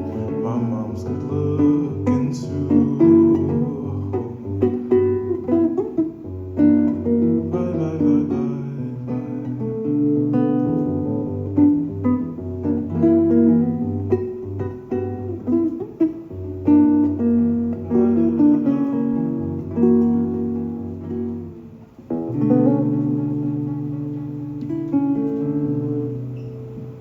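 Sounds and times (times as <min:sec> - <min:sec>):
guitar playing picked notes: 0:00.0 - 0:27.0.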